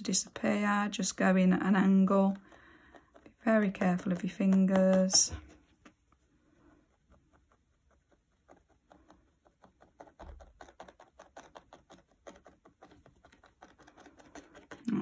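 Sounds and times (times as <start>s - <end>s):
felting needle poking foam: 0.0s - 15.0s.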